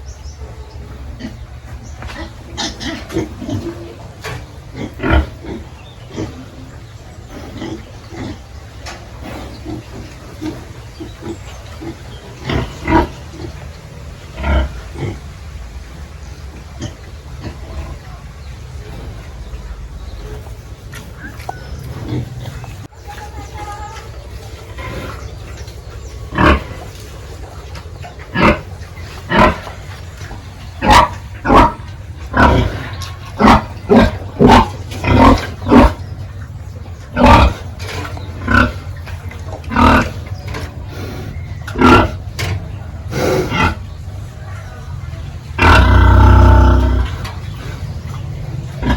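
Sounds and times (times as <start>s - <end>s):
pigs grunting: 0.0s - 15.5s, 16.6s - 22.9s, 24.0s - 44.2s, 45.4s - 48.9s.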